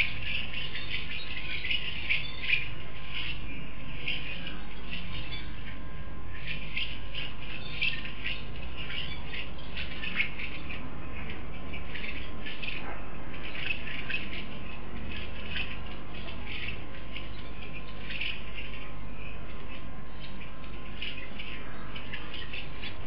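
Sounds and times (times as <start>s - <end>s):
birds calling and squawking: 0.0s - 23.0s
steady low hum: 0.0s - 23.0s.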